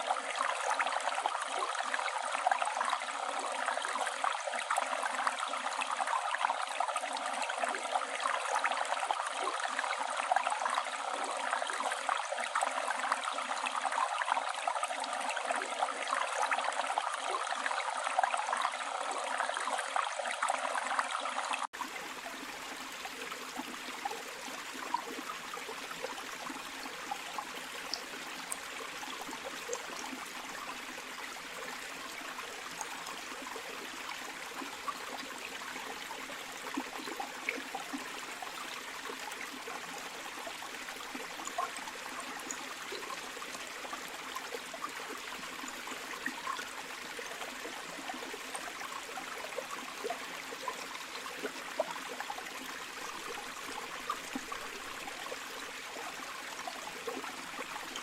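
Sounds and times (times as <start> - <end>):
water splashes and drips: 0.0 - 58.0.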